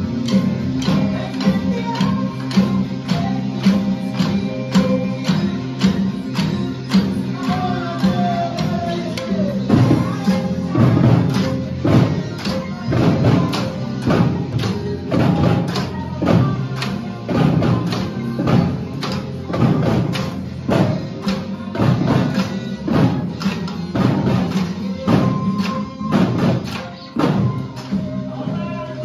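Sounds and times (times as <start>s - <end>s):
bass drums beating: 0.0s - 29.0s
drums playing steady beat: 0.0s - 29.0s
wooden mallet keyboard instruments: 0.0s - 29.0s.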